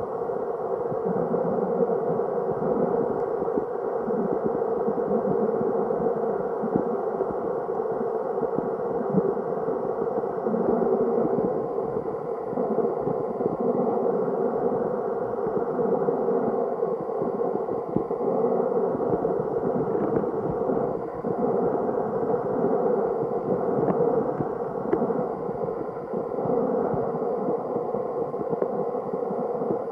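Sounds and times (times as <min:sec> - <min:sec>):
muffled underwater river current: 0:00.0 - 0:29.9.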